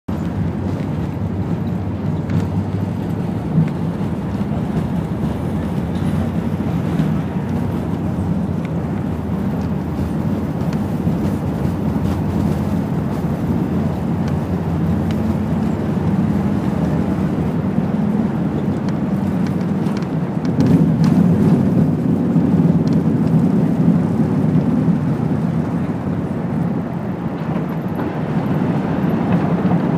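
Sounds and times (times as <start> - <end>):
airliner engine rumble and hum: 0.1 - 29.9.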